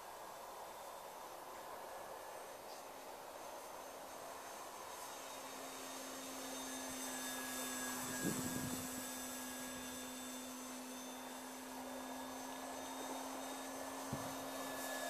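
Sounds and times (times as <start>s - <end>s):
model airplane motor humming: 2.0s - 15.0s.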